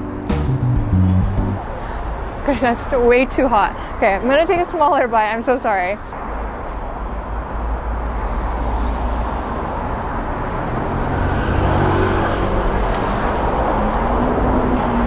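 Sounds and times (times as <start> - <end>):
busy street ambience: 0.0 - 15.0
vehicle engine rumble: 0.0 - 15.0.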